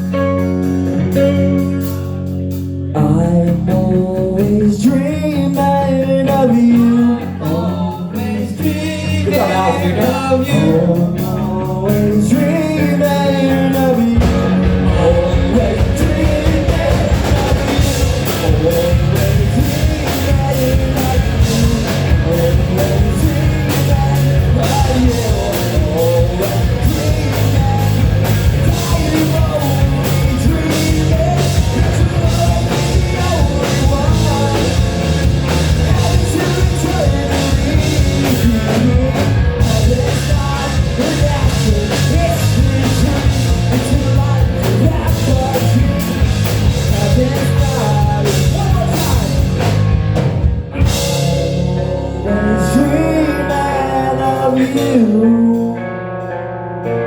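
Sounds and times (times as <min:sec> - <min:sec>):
person singing: 0:00.0 - 0:49.7, 0:50.8 - 0:56.3
drum kit: 0:00.0 - 0:55.8
live rock band playing: 0:00.0 - 0:57.0
guitar chords ringing: 0:09.0 - 0:57.0.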